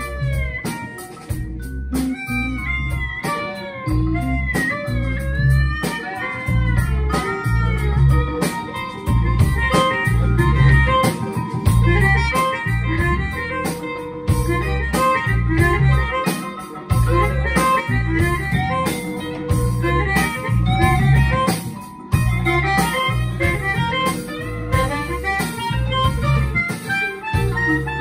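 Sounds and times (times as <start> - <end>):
drum kit: 0.0 - 28.0
electric guitar: 0.0 - 28.0
hand drums: 0.0 - 28.0
harmonica holding long notes: 0.0 - 28.0
upright bass: 0.0 - 28.0.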